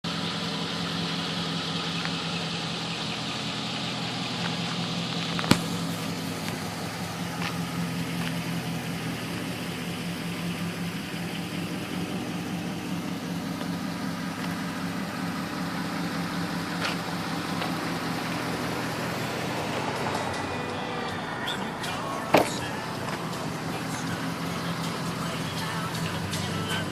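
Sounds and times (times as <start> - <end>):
pickup engine idling: 0.0 - 26.9.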